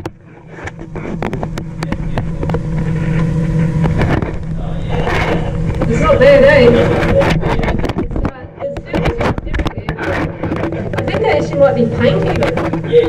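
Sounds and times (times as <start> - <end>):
camera knocks and scrapes: 0.0 - 6.0, 6.7 - 12.9
low mechanical hum: 0.0 - 13.0.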